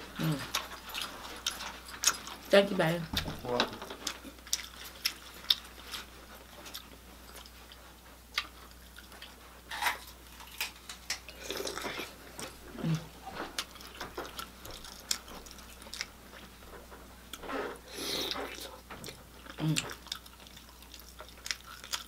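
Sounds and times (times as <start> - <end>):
chewing and mouth smacking: 0.2 - 2.5, 4.0 - 16.5, 18.3 - 22.0.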